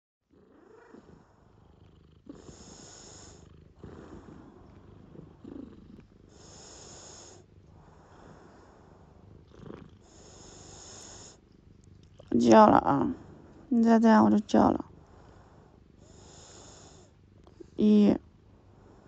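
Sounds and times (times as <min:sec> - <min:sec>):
cat purring: 0:00.2 - 0:19.0.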